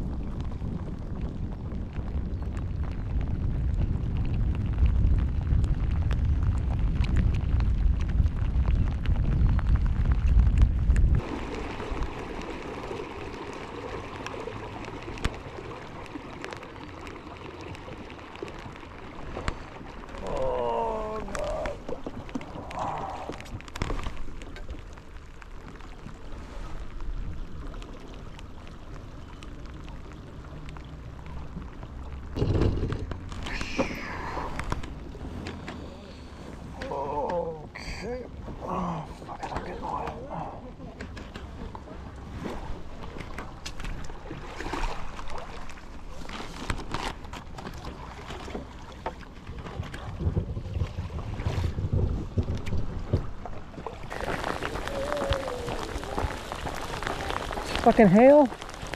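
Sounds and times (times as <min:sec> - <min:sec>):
steady rain falling: 0:00.0 - 0:47.6, 0:51.8 - 0:58.9
wind rumble on microphone: 0:00.0 - 0:58.9.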